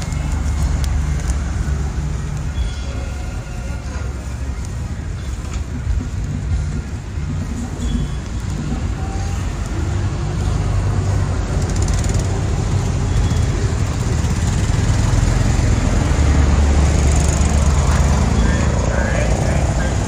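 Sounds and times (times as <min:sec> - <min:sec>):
passing vehicles engine noise: 0:00.0 - 0:20.0.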